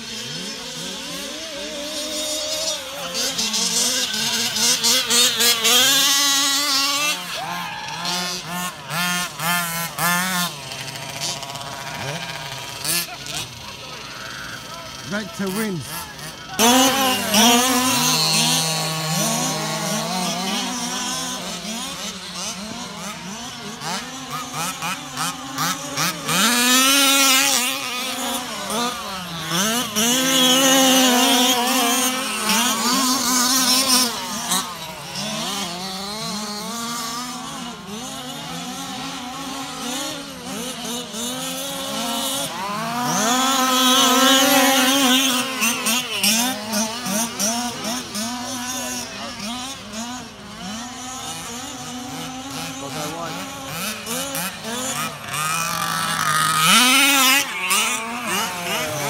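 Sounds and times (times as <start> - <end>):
rc car engines revving: 0.0 - 59.0.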